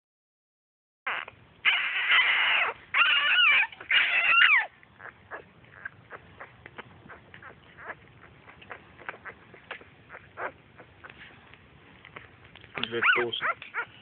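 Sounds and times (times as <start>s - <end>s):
puppies squealing: 1.1s - 11.4s, 12.1s - 14.0s.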